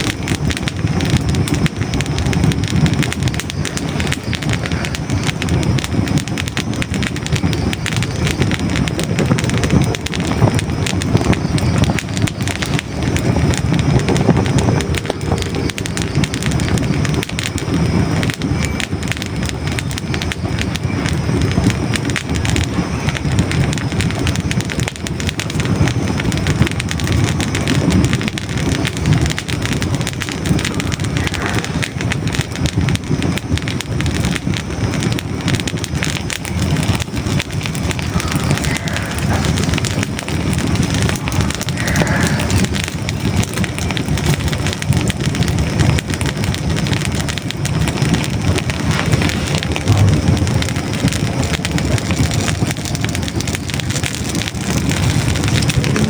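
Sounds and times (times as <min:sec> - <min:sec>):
fire crackling and popping: 0:00.0 - 0:56.0
low rumble of flame: 0:00.0 - 0:56.0.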